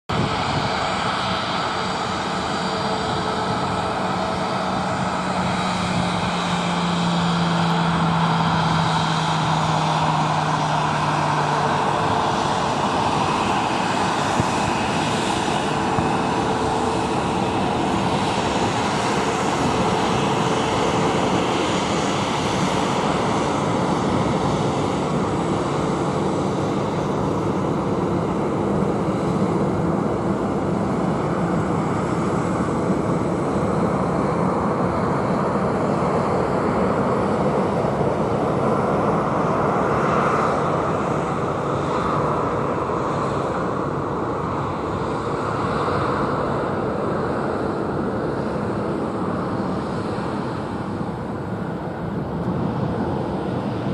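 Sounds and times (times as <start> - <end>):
jet engines roaring: 0.1 - 53.9.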